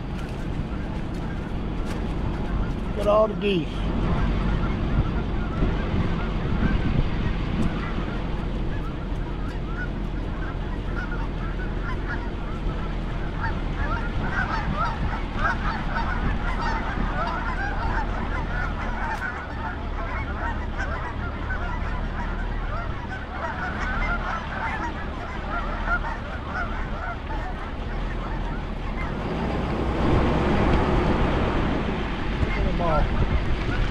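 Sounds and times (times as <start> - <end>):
geese honking: 0.0 - 33.9.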